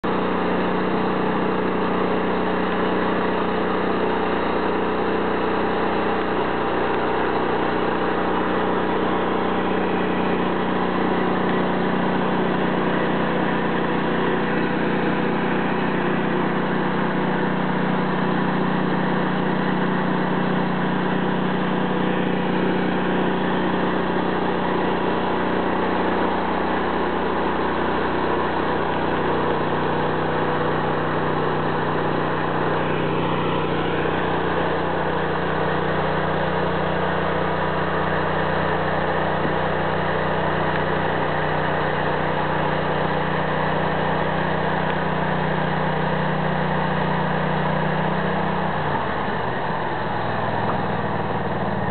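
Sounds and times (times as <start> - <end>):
sawmill engine running: 0.0 - 51.9.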